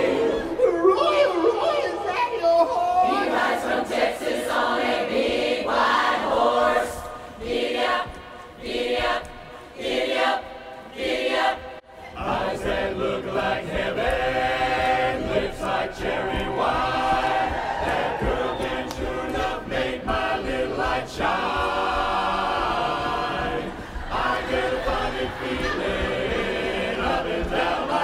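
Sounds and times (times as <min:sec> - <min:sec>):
mixed chorus singing: 0:00.0 - 0:01.8, 0:02.8 - 0:28.0.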